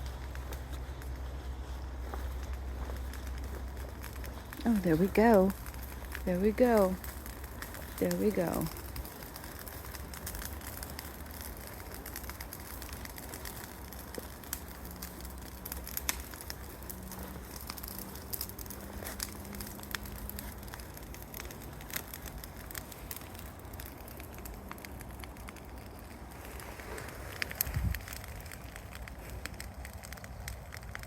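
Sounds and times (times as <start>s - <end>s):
burning debris crackling and popping: 0.0s - 31.0s
low rush of fire: 0.0s - 31.0s.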